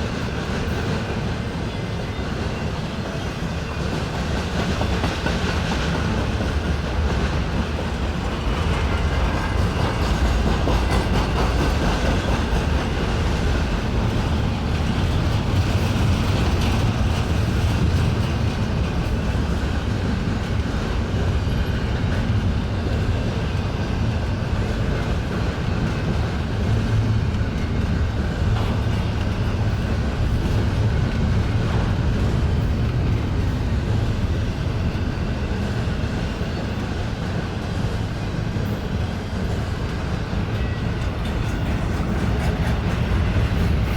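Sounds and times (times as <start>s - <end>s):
steel wheels rumbling on rail: 0.0s - 43.9s.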